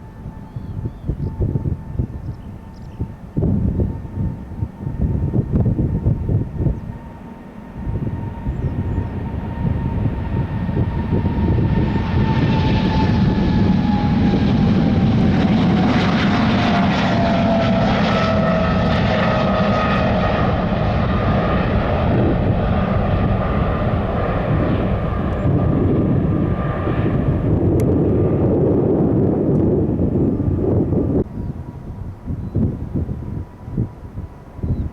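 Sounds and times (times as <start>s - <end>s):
jet engines roaring past: 0.0s - 34.9s.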